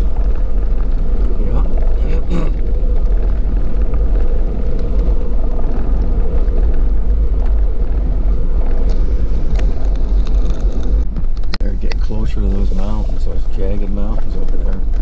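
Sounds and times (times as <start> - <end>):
vehicle driving on gravel: 0.0 - 15.0.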